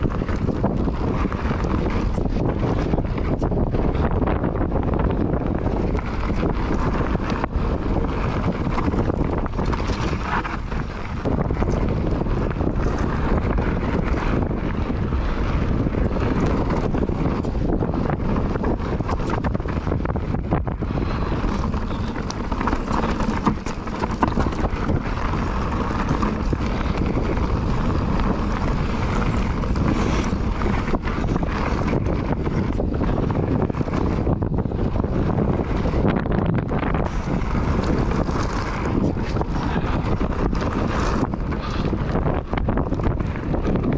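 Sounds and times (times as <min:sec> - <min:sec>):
bike knocks and rattles: 0:00.0 - 0:43.9
bike tyres rolling on gravel: 0:00.0 - 0:43.9
wind buffeting microphone: 0:00.0 - 0:43.9.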